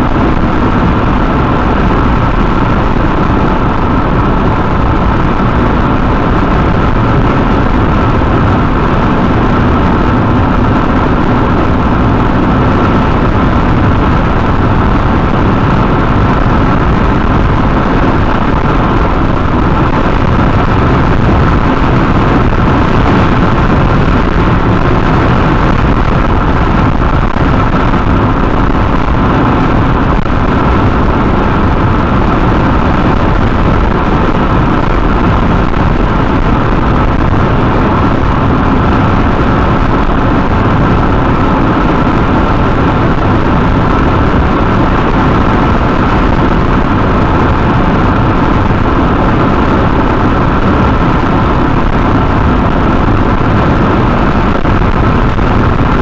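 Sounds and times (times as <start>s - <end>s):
car engine drone: 0.0s - 56.0s
road and tyre noise: 0.0s - 56.0s.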